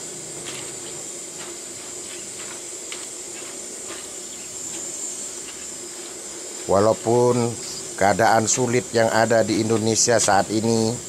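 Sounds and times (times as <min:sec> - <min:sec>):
deep-frying sizzle with pops: 0:00.0 - 0:10.8.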